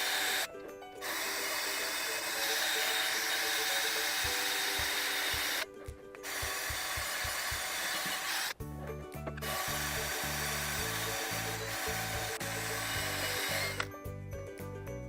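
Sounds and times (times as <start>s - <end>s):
power tool grinding rust: 0.0s - 8.6s, 9.4s - 13.9s.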